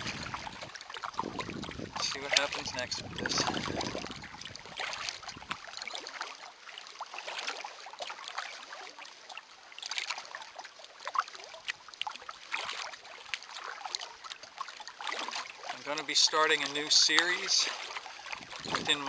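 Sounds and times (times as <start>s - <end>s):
waves lapping against boat hull: 0.0s - 19.0s.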